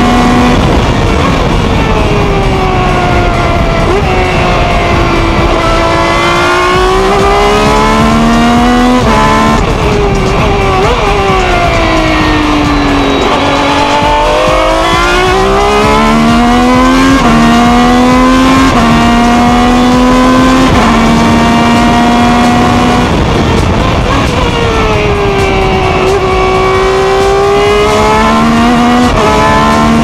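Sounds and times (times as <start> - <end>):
racing car engine accelerating: 0.0 - 30.0.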